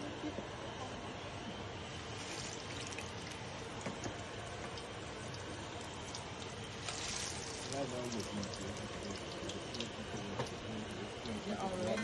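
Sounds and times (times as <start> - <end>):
plantain frying in hot oil: 1.7 - 12.0.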